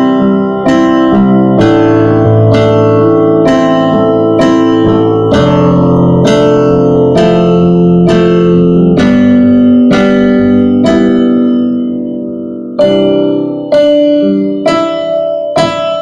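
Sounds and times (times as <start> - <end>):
digital piano melody and chords: 0.0 - 16.0.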